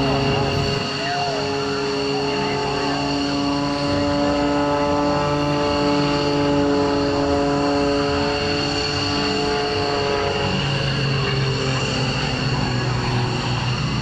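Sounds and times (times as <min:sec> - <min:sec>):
propeller airplane engine droning: 0:00.0 - 0:14.0.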